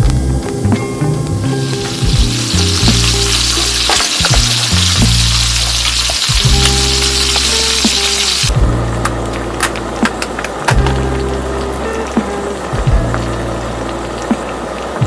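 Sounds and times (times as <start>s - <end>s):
background music: 0.0s - 15.0s
food sizzling in a pan: 0.1s - 15.0s.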